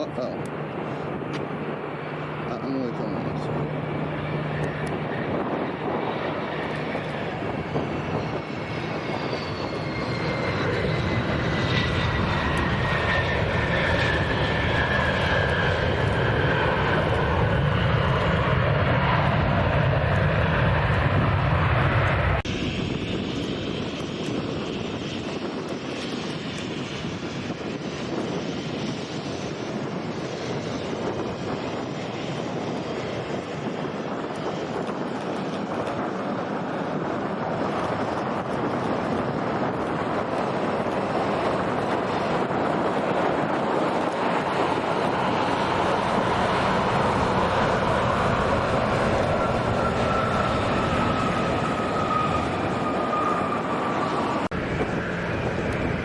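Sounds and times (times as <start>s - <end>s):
jet airliner engines passing: 0.0s - 56.0s.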